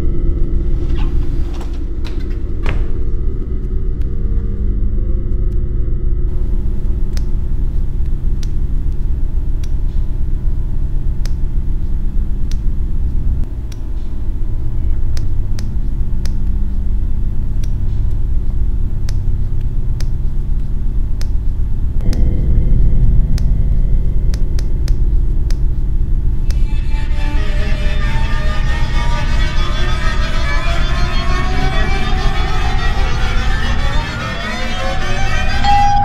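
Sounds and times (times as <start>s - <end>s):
low rumbling drone: 0.0s - 36.0s.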